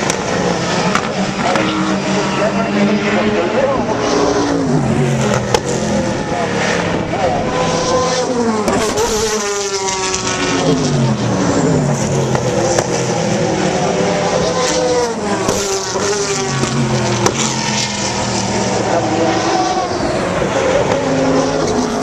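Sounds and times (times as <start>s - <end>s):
racing car engines passing: 0.0s - 22.0s.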